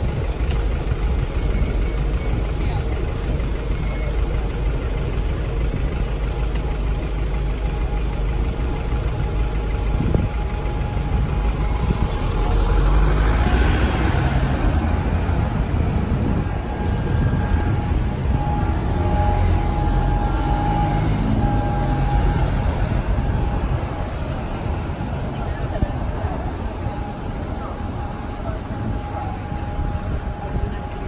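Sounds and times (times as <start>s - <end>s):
bus passing: 0.0s - 31.0s
traffic engine rumble: 0.0s - 31.0s.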